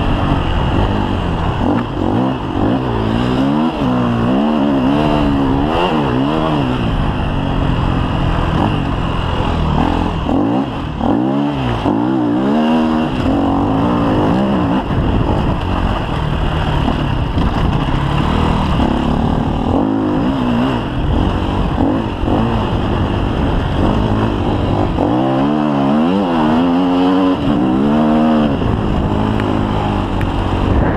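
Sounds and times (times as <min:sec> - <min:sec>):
motorcycle engine revving hard: 0:00.0 - 0:30.9.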